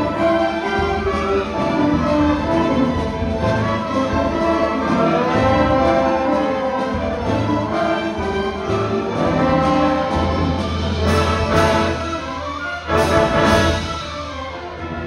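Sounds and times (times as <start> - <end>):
orchestra strings playing chords: 0.0 - 15.0.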